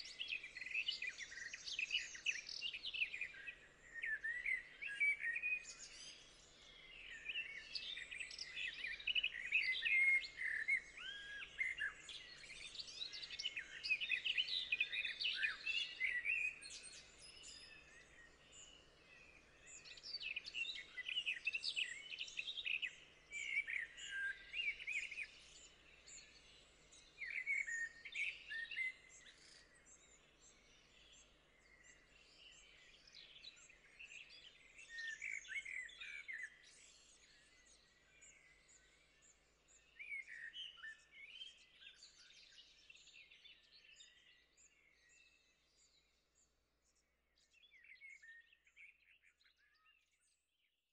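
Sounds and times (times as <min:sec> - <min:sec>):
songbirds singing and chirping: 0:00.0 - 0:50.9.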